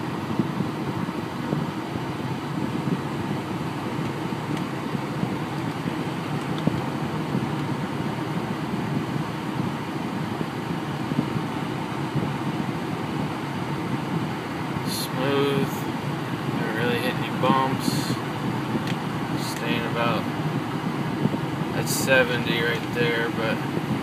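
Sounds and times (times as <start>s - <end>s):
road noise inside truck cab: 0.0s - 24.0s.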